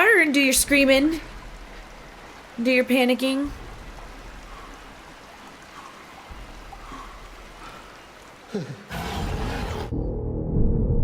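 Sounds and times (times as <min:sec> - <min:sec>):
low rush like flowing water: 0:00.0 - 0:09.9.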